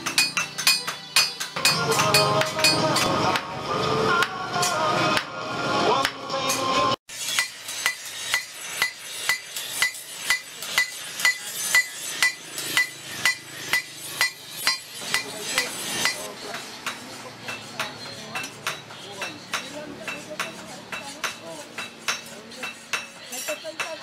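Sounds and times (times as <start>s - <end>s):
hammer striking steel on anvil: 0.0s - 3.4s, 6.0s - 24.0s.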